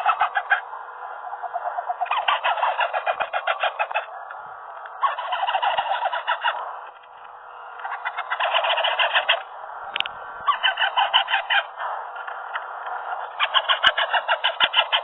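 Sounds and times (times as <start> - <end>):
parrot chicks begging calls: 0.0 - 15.0.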